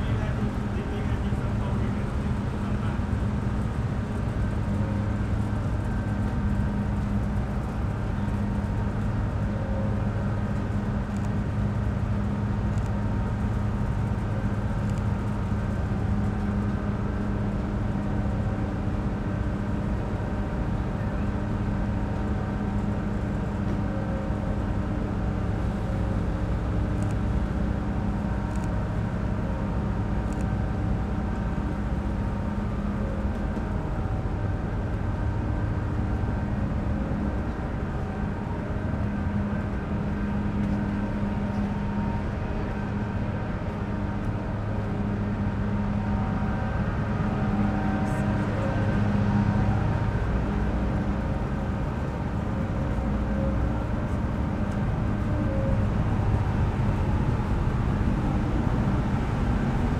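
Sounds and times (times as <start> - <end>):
ferry engines droning: 0.0 - 59.9.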